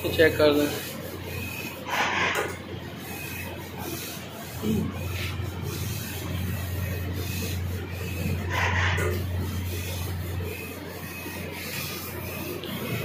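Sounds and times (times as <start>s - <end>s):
laser cutting machine humming and hissing: 0.0s - 13.0s.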